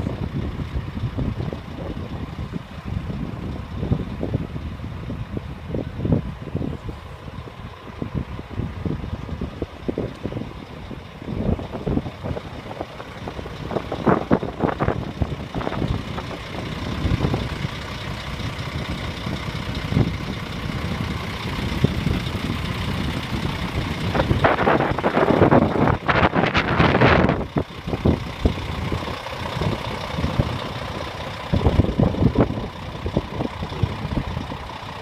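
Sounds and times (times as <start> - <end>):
heavy truck running: 0.0 - 35.0.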